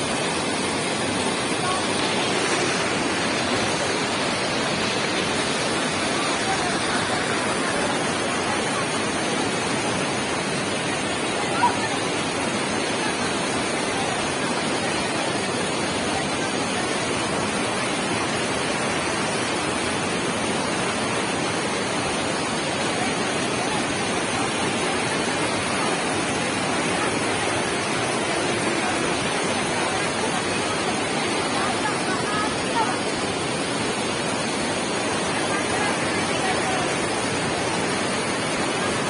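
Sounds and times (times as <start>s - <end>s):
stream rushing over boulders: 0.0s - 39.0s.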